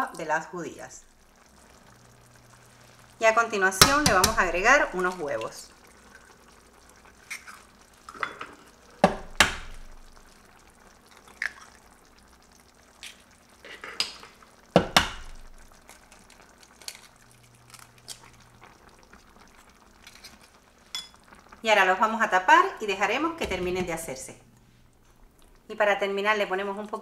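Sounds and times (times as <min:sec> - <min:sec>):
sauce simmering: 0:00.0 - 0:27.0.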